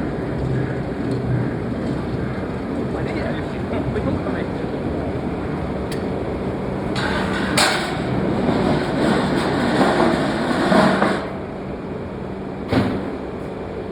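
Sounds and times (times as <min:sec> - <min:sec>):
machinery humming: 0:00.0 - 0:13.9
machinery clatter: 0:00.2 - 0:11.5.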